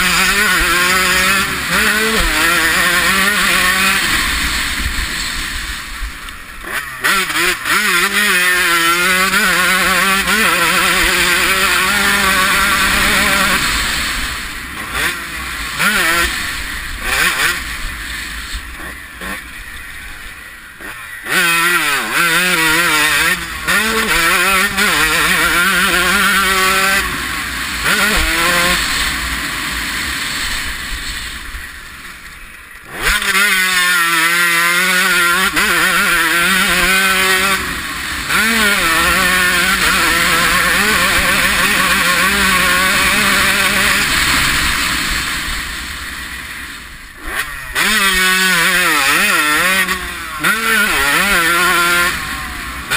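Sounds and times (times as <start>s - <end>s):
two-stroke engine revving: 0.0s - 52.9s.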